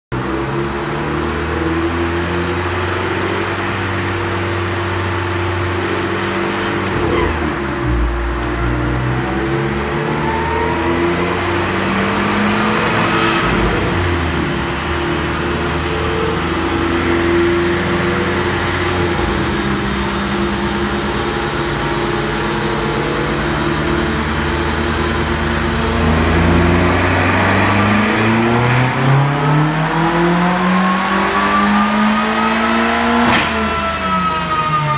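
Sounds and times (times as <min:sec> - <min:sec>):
turbocharged engine on dyno: 0:00.1 - 0:34.9.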